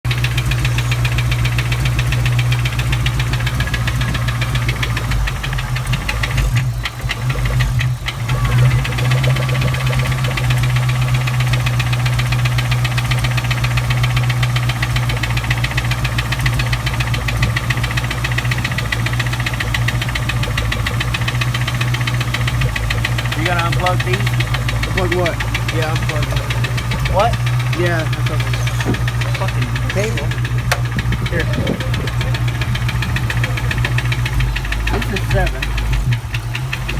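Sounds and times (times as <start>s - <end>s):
car engine running: 0.0s - 36.9s
engine ticking knock: 0.0s - 36.9s.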